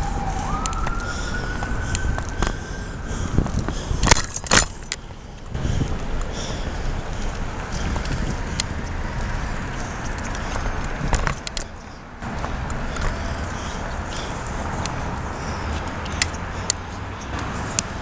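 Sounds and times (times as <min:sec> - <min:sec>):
wind and road noise: 0:00.0 - 0:18.0
bike metallic rattles and clicks: 0:03.4 - 0:18.0.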